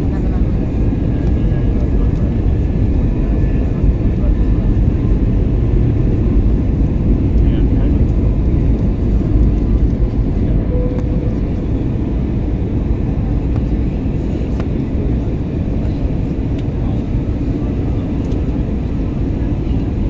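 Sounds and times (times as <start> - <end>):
jet airliner cabin noise: 0.0 - 20.0.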